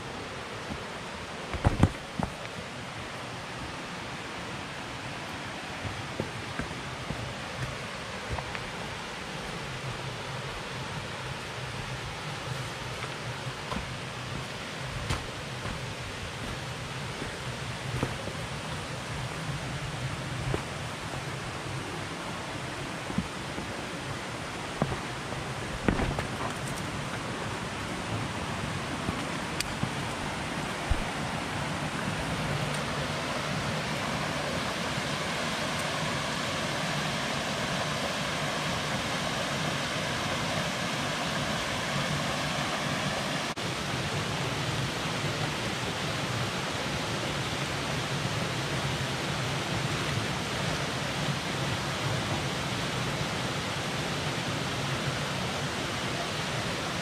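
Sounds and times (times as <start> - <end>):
water rushing in creek cascade: 0.0 - 57.0.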